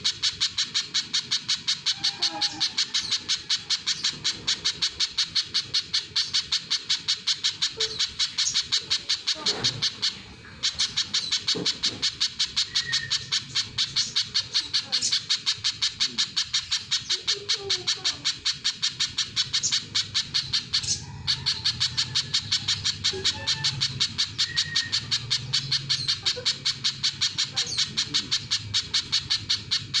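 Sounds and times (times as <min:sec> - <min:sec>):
bird sharp high chip notes: 0:00.0 - 0:30.0.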